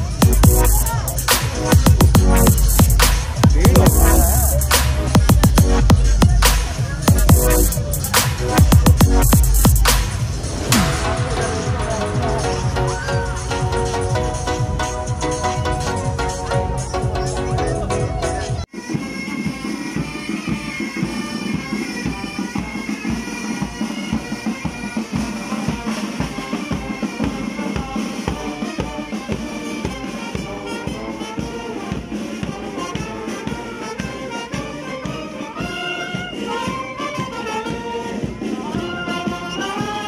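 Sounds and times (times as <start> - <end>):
marching band playing: 0.0 - 40.0
steady drumbeat: 0.0 - 40.0.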